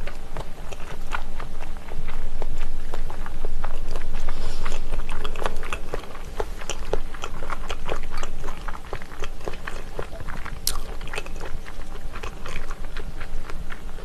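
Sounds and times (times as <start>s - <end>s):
chewing with mouth clicks: 0.0s - 14.0s.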